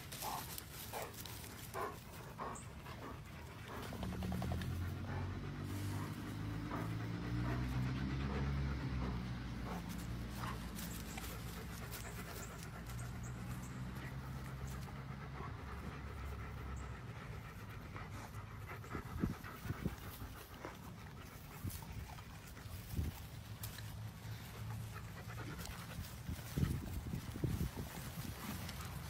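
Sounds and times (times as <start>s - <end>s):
dog panting: 0.0s - 29.0s.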